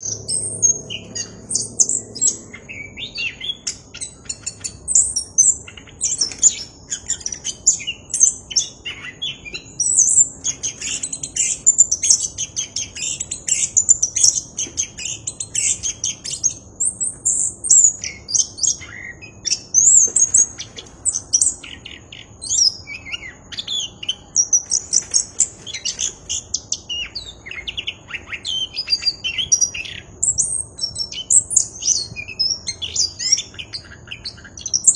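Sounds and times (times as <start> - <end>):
bird singing chirps and trills: 0.0 - 34.9.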